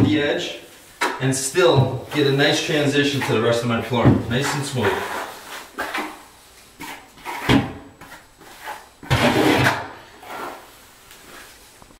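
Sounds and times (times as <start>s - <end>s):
trowel scraping mortar on floor: 1.0s - 11.6s.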